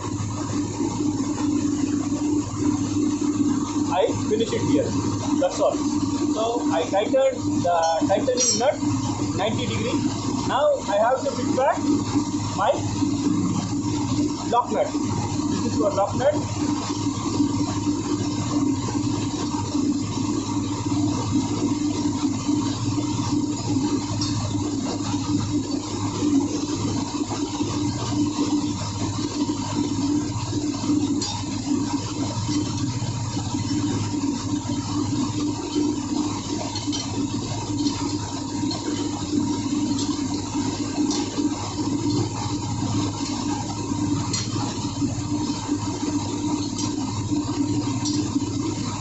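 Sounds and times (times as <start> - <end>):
engine-room machinery hum: 0.0 - 49.0.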